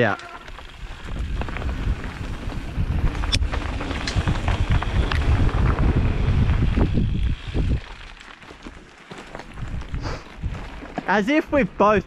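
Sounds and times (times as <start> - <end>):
wind buffeting microphone: 0.0 - 8.2, 9.5 - 12.0
mountain bike rattling on dirt trail: 0.0 - 12.0.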